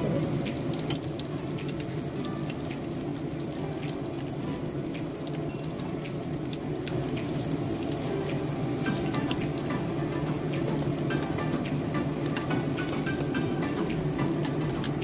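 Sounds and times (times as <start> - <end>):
oil sizzling and popping: 0.0 - 15.0.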